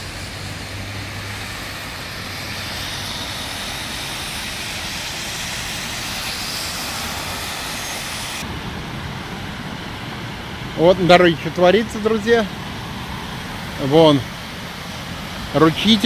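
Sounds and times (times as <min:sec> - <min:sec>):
low engine rumble: 0:00.0 - 0:16.0
tyres hissing on wet road: 0:00.0 - 0:16.0.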